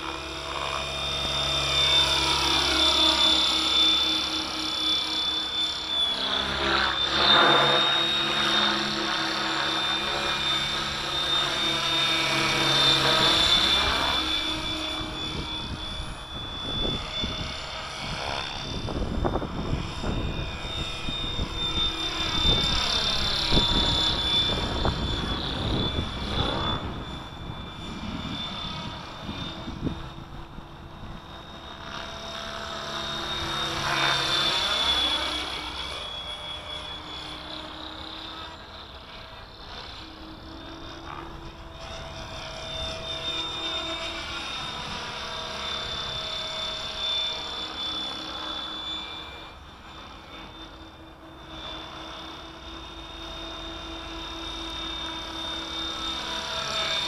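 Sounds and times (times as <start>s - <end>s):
model helicopter rotor whirring: 0.0s - 57.0s.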